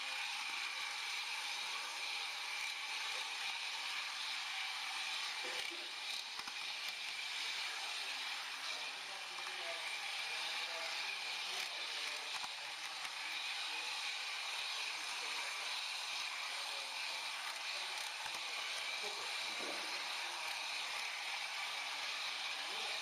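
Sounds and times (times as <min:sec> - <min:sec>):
model train whirring: 0:00.0 - 0:23.0.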